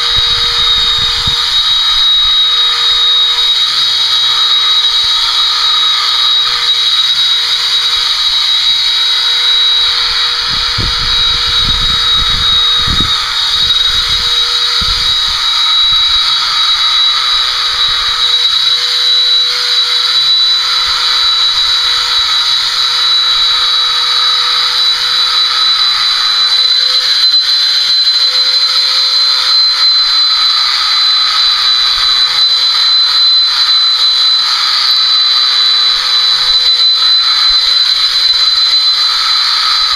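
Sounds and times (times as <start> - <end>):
electric clippers whining: 0.0 - 39.9.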